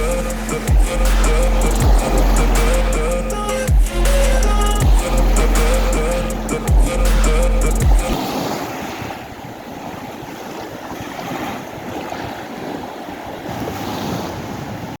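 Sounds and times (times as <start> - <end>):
sea surf washing ashore: 0.0 - 15.0
wind buffeting microphone: 0.0 - 15.0.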